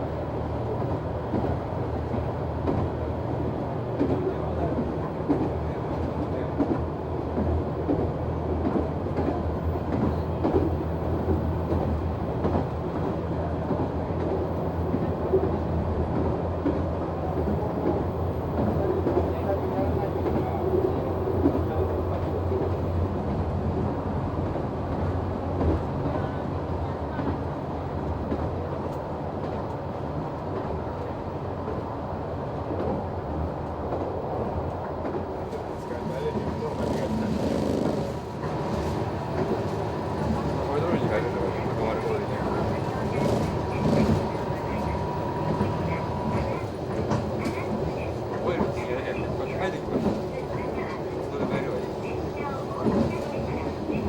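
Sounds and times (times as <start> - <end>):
railcar engine drone: 0.0 - 54.0
wheels rumbling on rail: 0.0 - 54.0.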